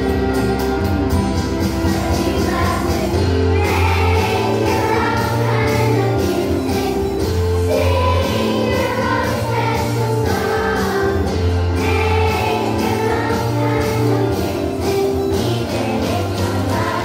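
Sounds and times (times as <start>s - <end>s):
backing track with beat: 0.0s - 17.0s
children's choir singing: 1.7s - 17.0s.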